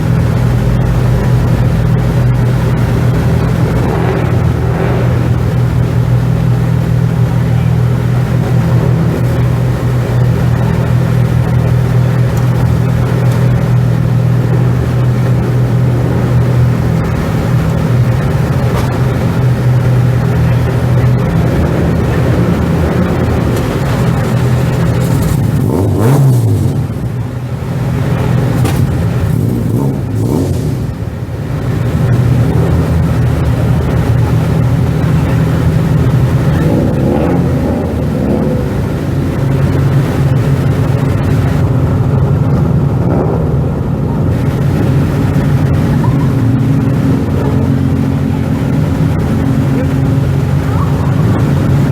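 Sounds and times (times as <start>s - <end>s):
car engine idling: 0.0s - 51.9s
engine revving: 0.0s - 51.9s.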